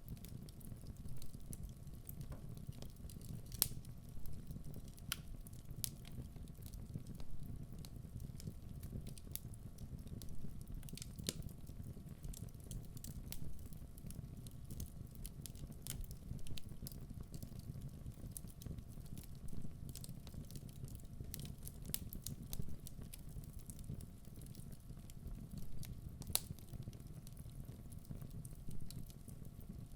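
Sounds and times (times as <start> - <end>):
fire crackling and popping: 0.0 - 29.9
low rumble of flames: 0.0 - 29.9.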